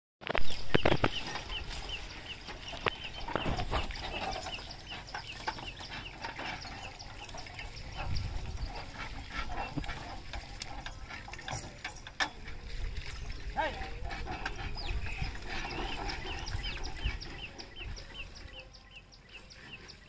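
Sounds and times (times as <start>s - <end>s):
cart rattling over rough ground: 0.2s - 20.0s.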